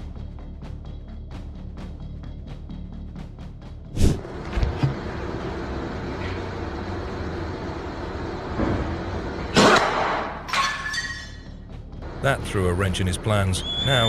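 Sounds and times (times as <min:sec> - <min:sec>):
vehicle running with road noise: 0:01.0 - 0:10.6, 0:11.6 - 0:14.0.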